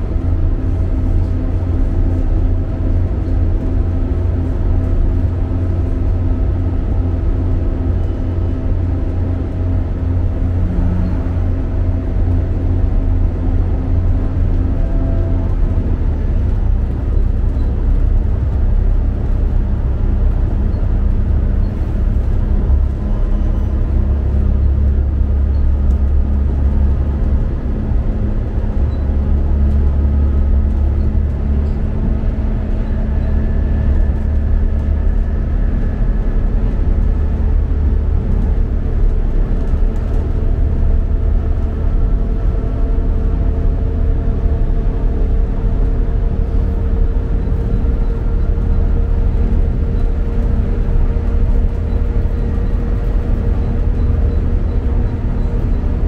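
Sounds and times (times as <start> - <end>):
train rumbling on track: 0.0 - 56.0.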